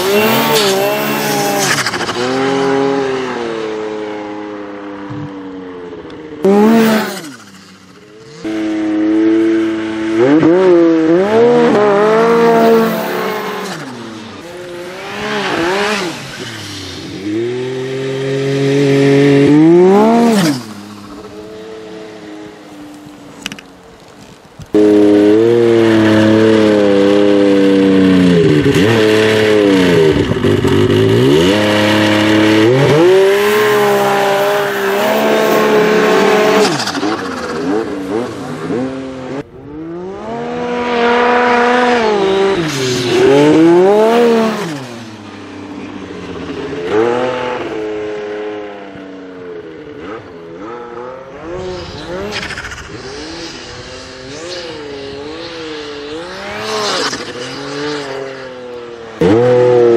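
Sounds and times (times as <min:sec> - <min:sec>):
snowmobile engine revving hard: 0:00.0 - 0:04.0, 0:06.4 - 0:22.6, 0:24.7 - 0:45.4, 0:46.4 - 0:48.5, 0:50.0 - 0:59.9.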